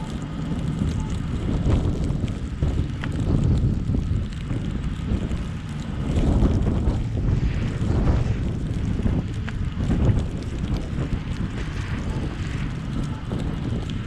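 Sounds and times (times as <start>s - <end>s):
road rumble from car: 0.0s - 14.0s
wind buffeting microphone: 0.0s - 14.0s.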